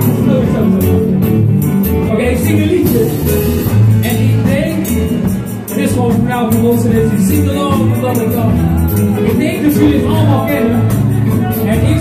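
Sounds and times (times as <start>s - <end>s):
man singing into microphone: 0.0s - 1.3s, 2.0s - 12.0s
electric and acoustic guitars: 0.0s - 12.0s
keyboard: 0.0s - 12.0s.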